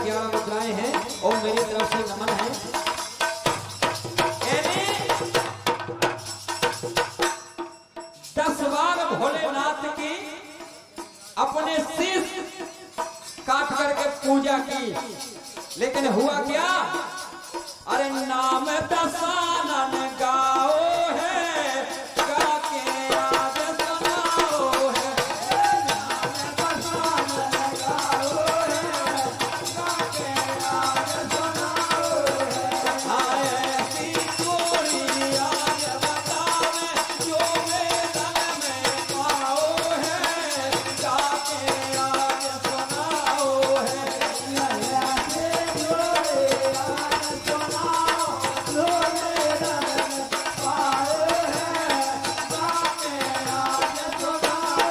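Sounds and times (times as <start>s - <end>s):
hand drum rhythm: 0.0s - 54.9s.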